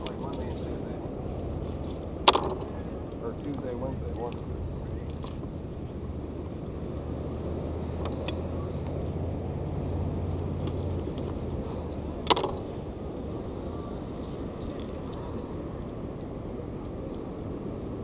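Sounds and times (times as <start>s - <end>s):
low engine drone: 0.0s - 18.0s
outdoor background noise: 0.0s - 18.0s.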